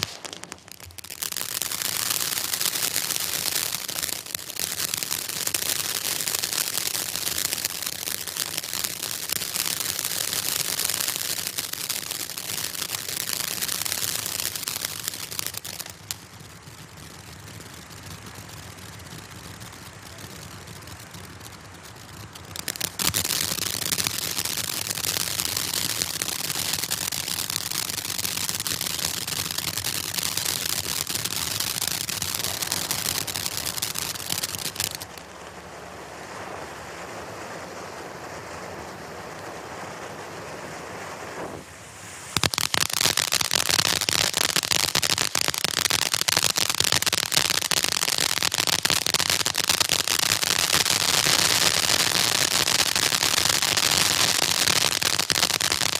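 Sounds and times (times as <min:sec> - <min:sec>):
hiss of sparks fountain: 0:00.0 - 0:16.6, 0:17.4 - 0:35.2, 0:40.6 - 0:55.9
fireworks crackling: 0:00.0 - 0:55.9.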